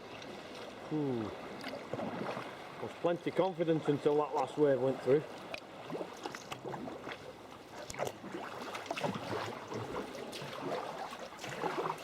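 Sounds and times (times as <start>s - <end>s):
paddle strokes in water: 0.0s - 12.0s
water splashing around kayak hull: 0.0s - 12.0s.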